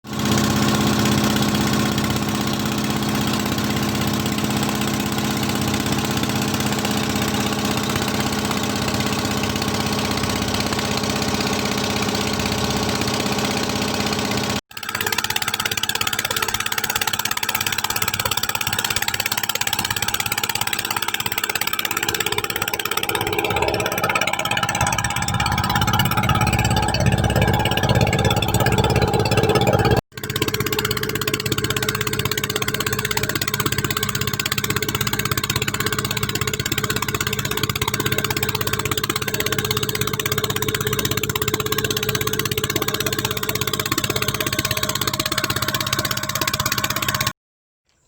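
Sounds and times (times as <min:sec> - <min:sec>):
engine running steadily: 0:00.0 - 0:47.3
noisy engine-like drone: 0:00.1 - 0:47.3.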